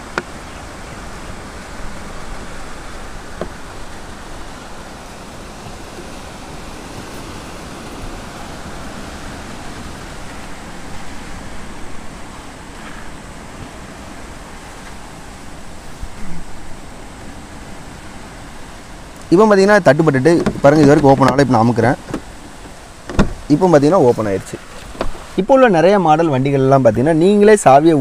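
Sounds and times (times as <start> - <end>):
wind on microphone: 0.0 - 25.4.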